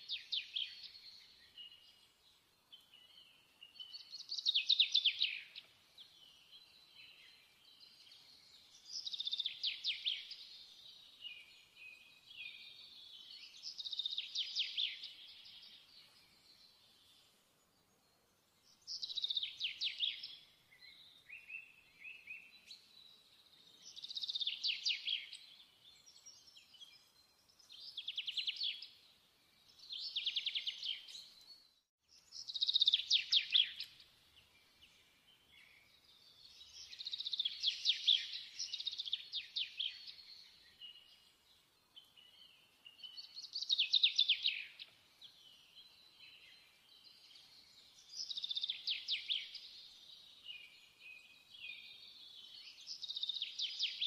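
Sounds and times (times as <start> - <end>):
soft bird chirps: 0.0 - 54.0.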